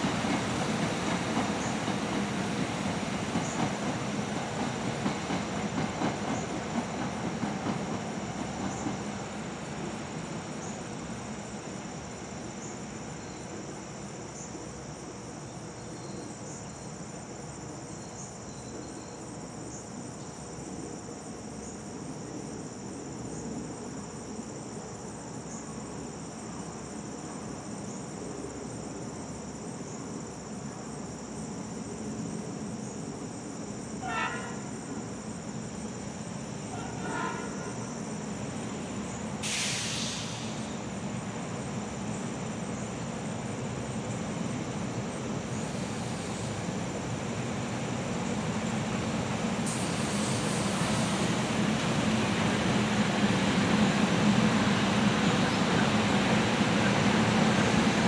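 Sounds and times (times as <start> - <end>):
electric train rumble: 0.0 - 15.7, 20.5 - 58.0
insect chorus: 0.0 - 58.0.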